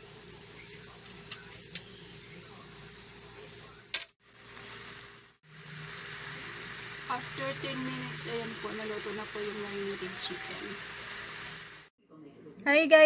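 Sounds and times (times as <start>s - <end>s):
chicken sizzling in hot oil: 0.0s - 11.9s.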